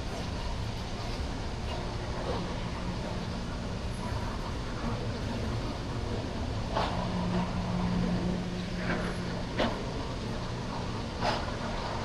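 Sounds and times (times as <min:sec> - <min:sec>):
train engine hum: 0:00.0 - 0:12.0.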